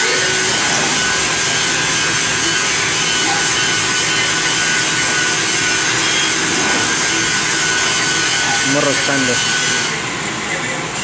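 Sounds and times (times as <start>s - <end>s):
faint high machine whine: 0.0s - 11.0s
lathe cutting metal: 0.0s - 11.0s.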